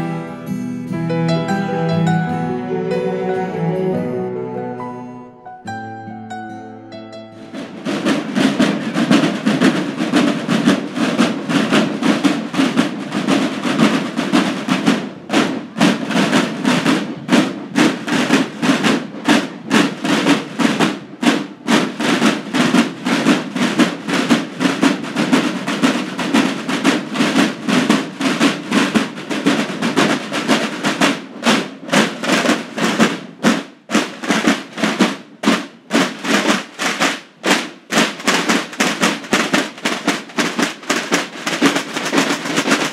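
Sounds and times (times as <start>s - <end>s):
drums in fast rhythm: 7.4s - 42.9s.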